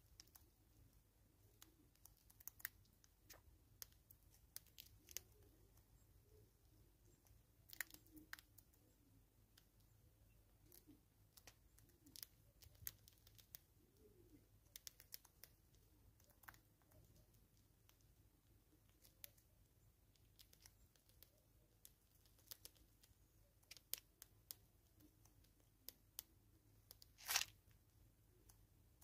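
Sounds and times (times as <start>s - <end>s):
bird pecking: 0.0s - 27.6s
squirrel nibbling seeds: 0.0s - 29.0s.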